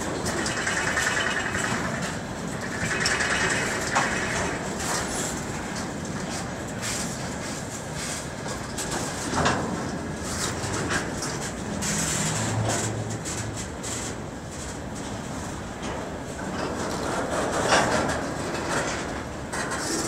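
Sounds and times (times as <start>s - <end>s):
freight train wheels rumbling on rails: 0.0s - 20.0s
train wagons clicking and clanking: 0.0s - 20.0s.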